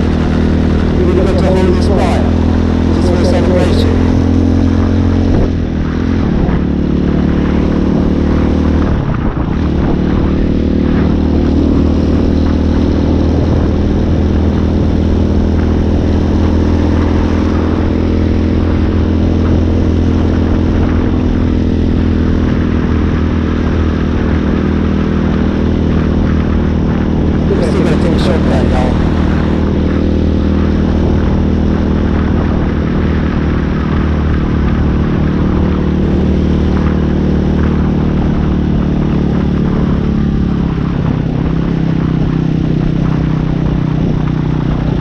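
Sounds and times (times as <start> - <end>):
dirt bike engine running: 0.0 - 45.0.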